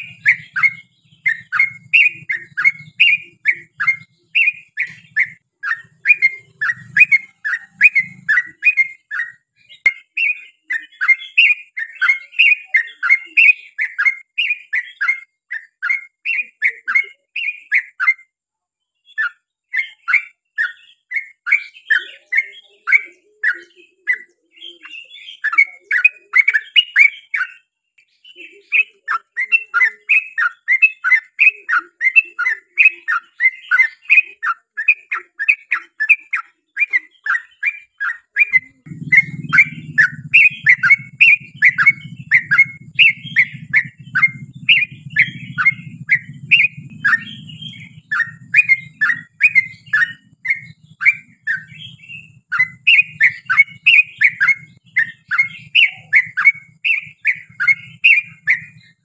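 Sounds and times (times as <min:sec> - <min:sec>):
bird singing chattering notes: 0:00.0 - 0:18.3, 0:19.0 - 0:59.0.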